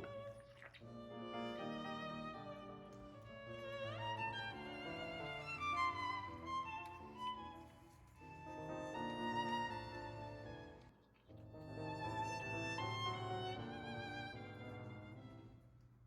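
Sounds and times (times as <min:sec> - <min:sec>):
violin background music: 0:00.0 - 0:15.7.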